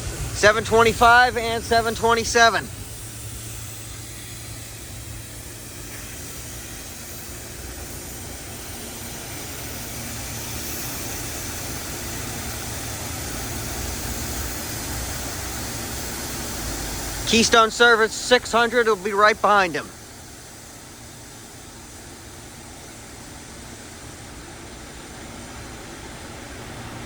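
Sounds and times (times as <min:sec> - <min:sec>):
electric train running: 0:00.0 - 0:27.0.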